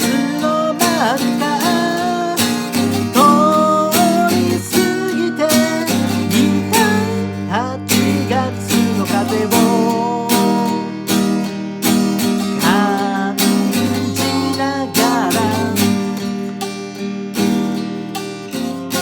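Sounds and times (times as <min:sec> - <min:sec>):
acoustic guitar strumming: 0:00.0 - 0:19.0
pitch-bending melody line: 0:00.0 - 0:19.0.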